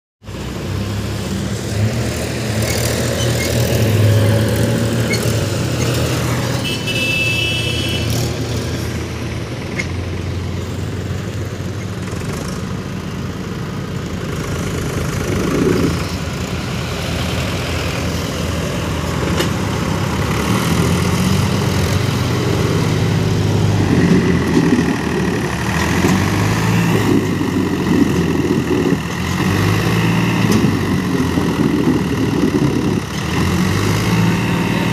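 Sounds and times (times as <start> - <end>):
tractor diesel engine straining: 0.3 - 34.9.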